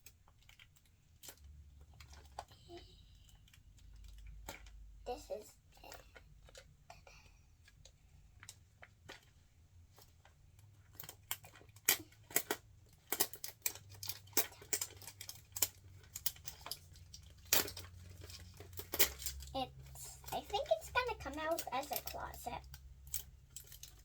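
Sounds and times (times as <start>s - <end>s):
packaging clicks and crackles: 0.0s - 24.0s.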